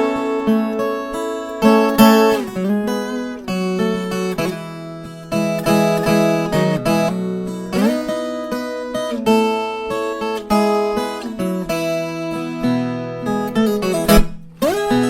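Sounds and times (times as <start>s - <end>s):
folk guitar picking a tune: 0.0s - 15.0s.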